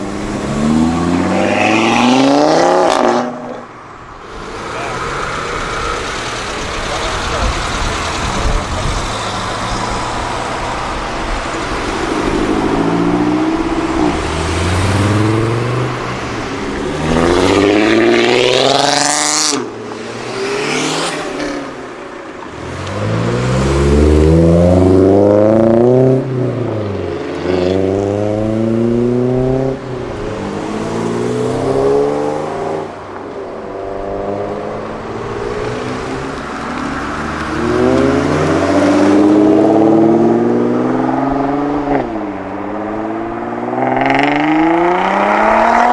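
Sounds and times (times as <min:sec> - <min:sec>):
cars accelerating hard: 0:00.0 - 0:45.9.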